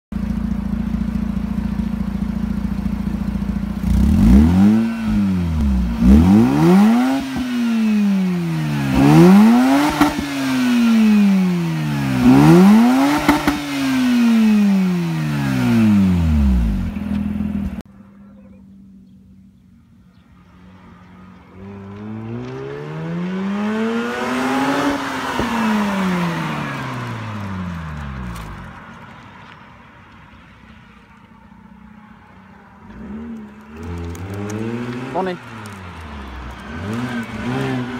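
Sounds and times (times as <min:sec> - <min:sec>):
rotary engine idling and revving: 0:00.1 - 0:17.9, 0:20.2 - 0:29.6, 0:32.5 - 0:37.9.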